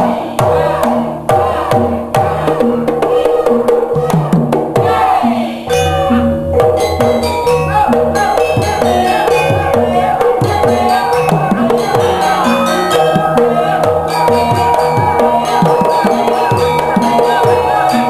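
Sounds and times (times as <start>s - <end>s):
drums with sliding pitch: 0.0s - 18.0s
ringing pitched tones: 3.4s - 18.0s.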